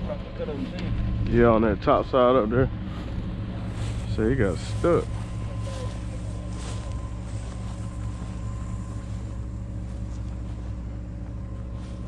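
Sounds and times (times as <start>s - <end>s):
truck engine low drone: 0.0s - 12.0s.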